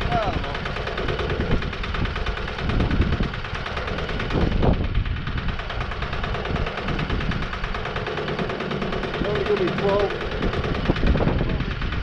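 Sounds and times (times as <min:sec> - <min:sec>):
band sawmill running: 0:00.0 - 0:12.0.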